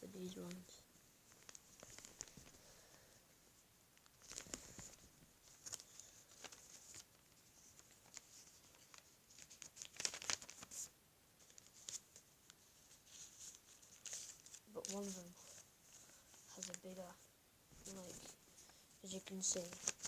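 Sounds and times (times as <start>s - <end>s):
paper rustling and crinkling: 1.3s - 2.6s, 4.0s - 16.9s, 17.8s - 20.0s.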